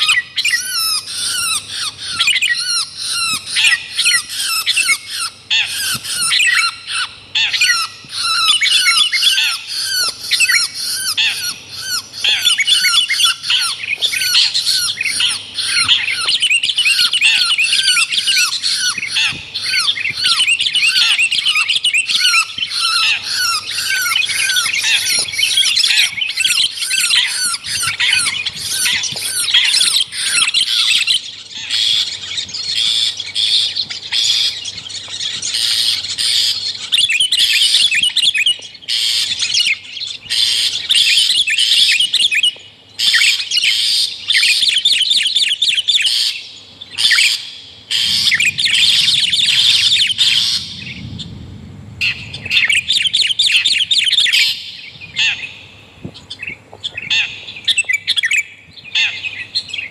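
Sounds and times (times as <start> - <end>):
songbirds chattering and squawking: 0.0 - 59.9.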